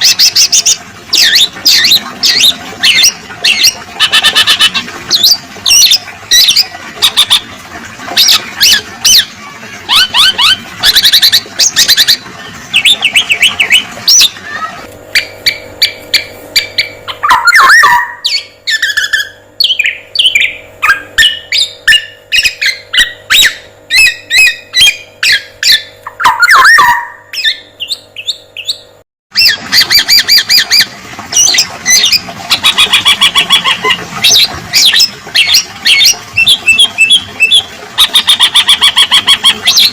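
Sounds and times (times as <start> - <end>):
oriole chattering song: 0.0 - 39.9
steady low hum: 0.0 - 39.9.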